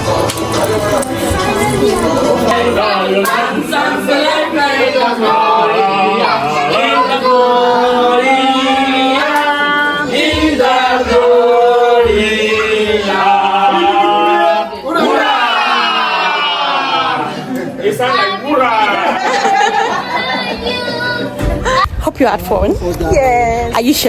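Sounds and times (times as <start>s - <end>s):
group of people singing: 0.0s - 21.9s.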